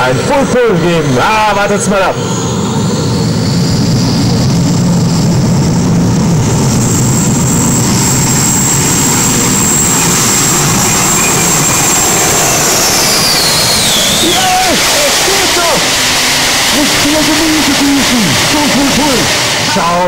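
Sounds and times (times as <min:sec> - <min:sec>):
gas turbine whine: 0:00.0 - 0:20.0
low rumble: 0:00.0 - 0:20.0.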